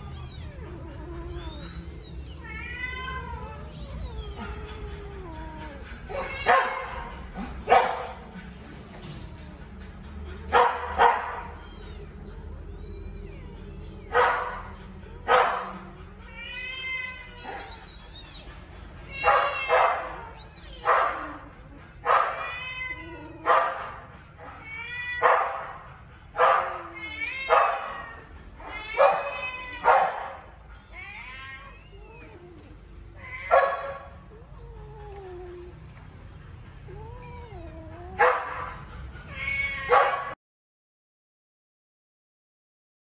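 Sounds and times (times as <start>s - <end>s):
kittens yowling: 0.0s - 40.4s.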